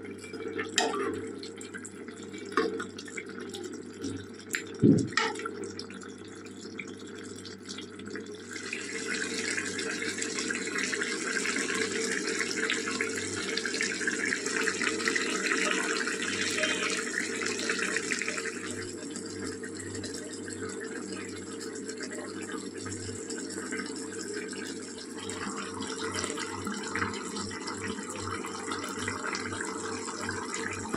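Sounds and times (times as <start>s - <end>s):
gravy bubbling and sizzling: 0.0s - 30.9s.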